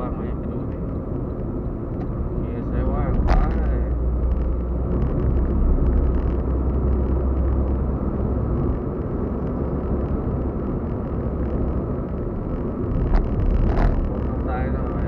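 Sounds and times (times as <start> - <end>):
car cabin engine and tyre rumble: 0.0 - 15.0.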